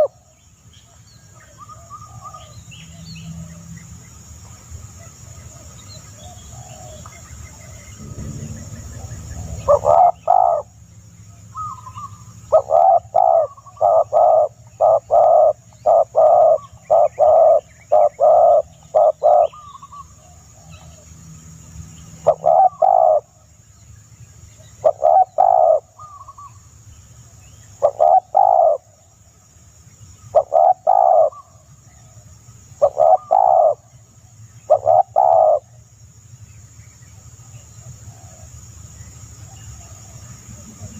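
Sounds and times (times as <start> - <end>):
bird calls: 0.0 - 35.8.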